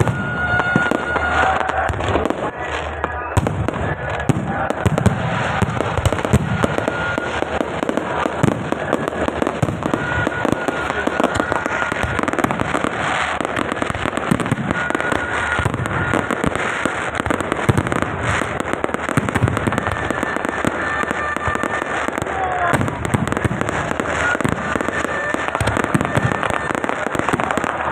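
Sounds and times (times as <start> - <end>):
fireworks crackling and popping: 0.0 - 27.9.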